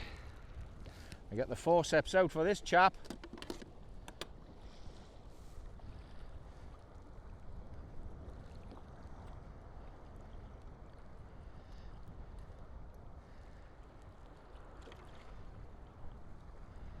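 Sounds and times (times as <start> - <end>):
sea water around a kayak: 0.0 - 17.0.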